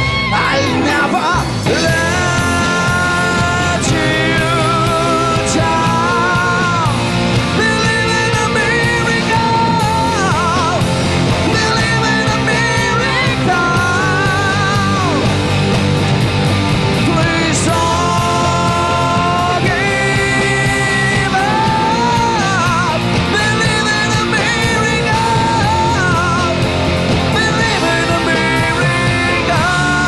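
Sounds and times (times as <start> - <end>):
man singing: 0.0 - 15.4, 16.9 - 30.0
rock band playing: 0.0 - 30.0.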